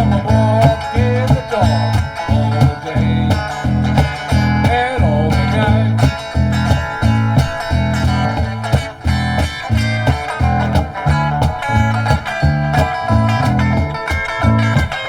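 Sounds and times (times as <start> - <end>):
bass guitar line: 0.0 - 15.0
electric guitar lead: 0.0 - 15.0
kick drum beat: 0.0 - 15.0.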